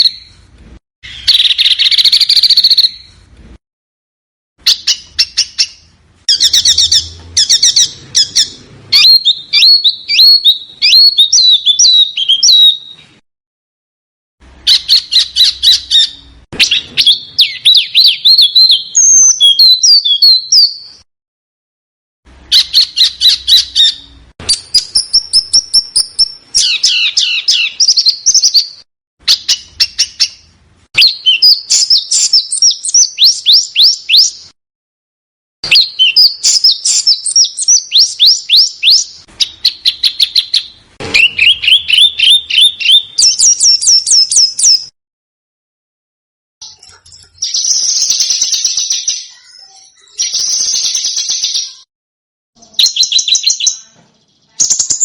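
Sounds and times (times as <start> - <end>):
songbird chirps and trills: 1.0 - 3.2, 4.6 - 13.2, 14.6 - 21.0, 22.5 - 34.5, 35.6 - 44.9, 46.6 - 51.9, 52.6 - 55.0.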